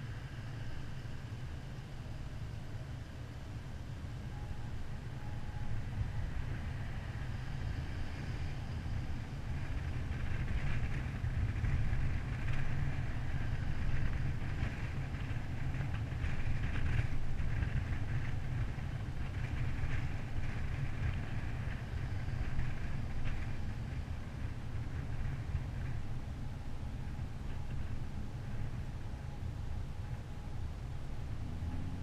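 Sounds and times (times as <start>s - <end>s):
car road noise: 0.0s - 32.0s
wind rumble: 0.0s - 32.0s.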